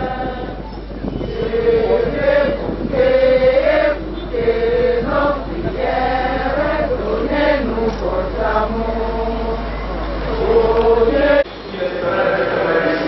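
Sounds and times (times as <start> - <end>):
crowd singing together: 0.0 - 13.0.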